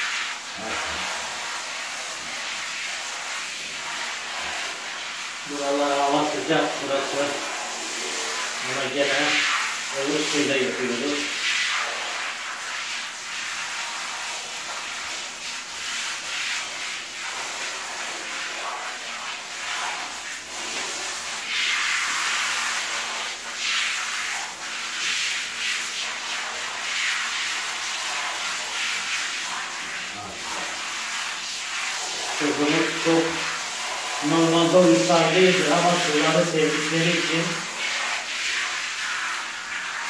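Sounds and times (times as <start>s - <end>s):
shower spray hissing: 0.0s - 40.0s.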